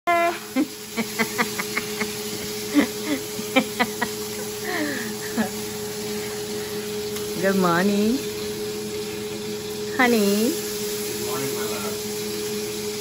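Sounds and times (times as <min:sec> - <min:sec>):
bacon sizzling in a frying pan: 0:00.1 - 0:13.0.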